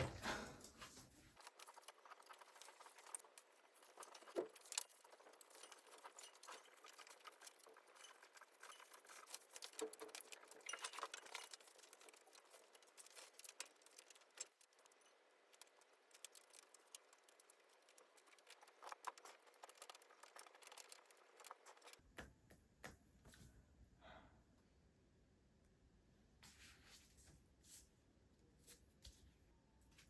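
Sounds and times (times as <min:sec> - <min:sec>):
background noise: 0:00.0 - 0:30.0.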